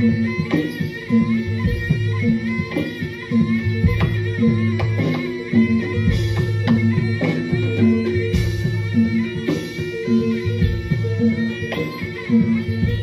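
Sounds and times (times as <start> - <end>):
gamelan struck pitched tones: 0.0 - 13.0.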